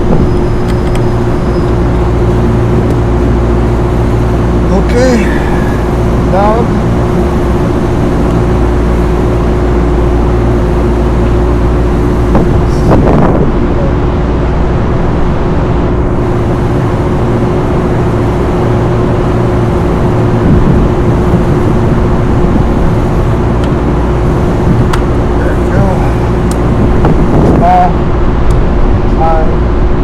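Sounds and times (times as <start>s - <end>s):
exhaust fan droning: 0.0s - 30.0s.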